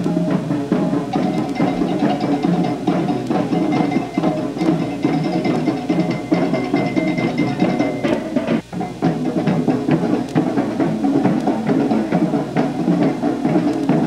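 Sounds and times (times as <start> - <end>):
drums beating: 0.0 - 14.0
marching parade music: 0.0 - 14.0.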